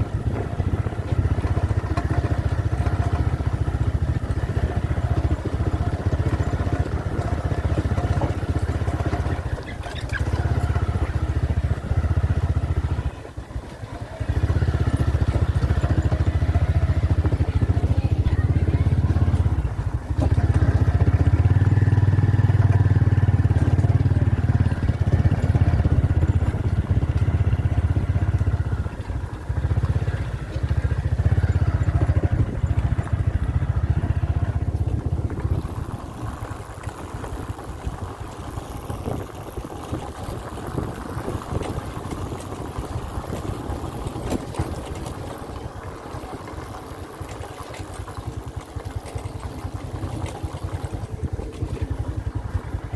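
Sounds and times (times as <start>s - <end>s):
road and wind noise: 0.0s - 52.9s
vehicle engine drone: 0.0s - 52.9s.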